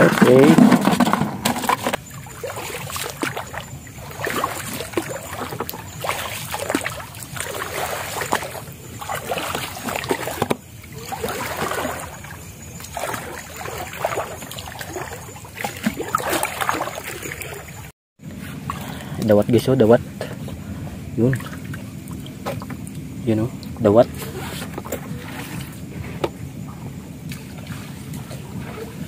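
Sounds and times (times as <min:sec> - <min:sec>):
legs wading through water: 0:00.0 - 0:29.0.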